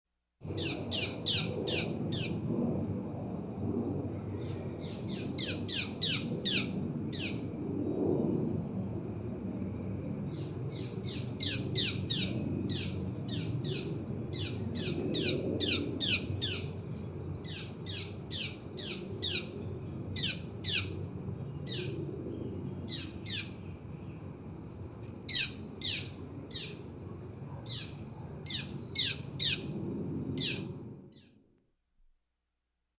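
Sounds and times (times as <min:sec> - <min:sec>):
distant aeroplane rumble: 0:00.4 - 0:31.3.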